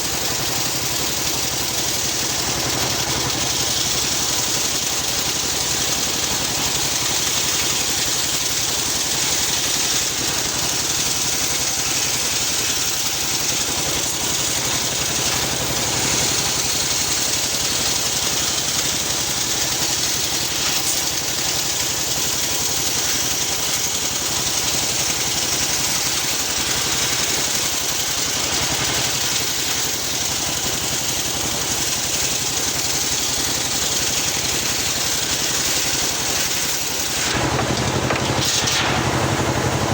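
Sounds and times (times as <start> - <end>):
engine drone: 0.0 - 39.9
saw blade hissing: 2.3 - 39.9.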